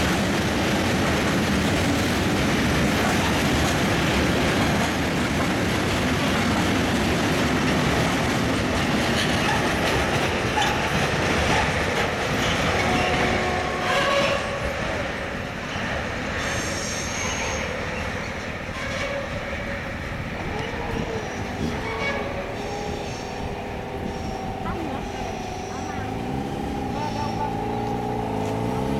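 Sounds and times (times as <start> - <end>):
train wheels clattering over rails: 0.0 - 28.9.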